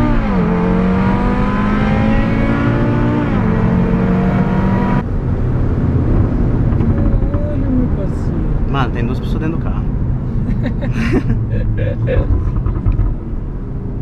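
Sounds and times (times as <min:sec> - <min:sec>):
car engine accelerating: 0:00.0 - 0:08.9, 0:09.9 - 0:14.0.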